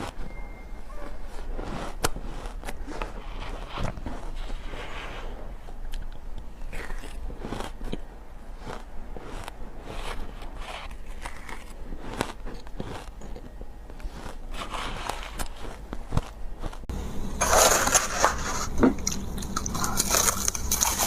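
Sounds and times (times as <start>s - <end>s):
ice crunching as bitten: 0.9s - 4.7s, 5.8s - 21.0s.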